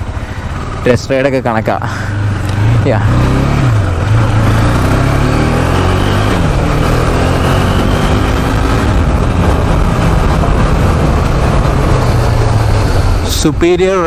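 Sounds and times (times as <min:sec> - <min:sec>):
motorcycle engine running under load: 0:00.0 - 0:13.6.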